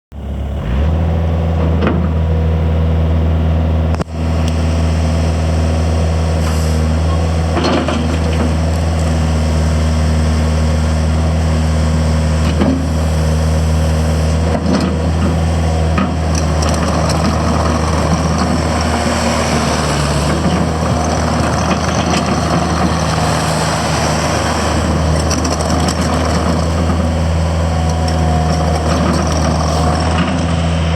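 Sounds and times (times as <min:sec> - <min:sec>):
diesel engine droning: 0:00.1 - 0:30.9.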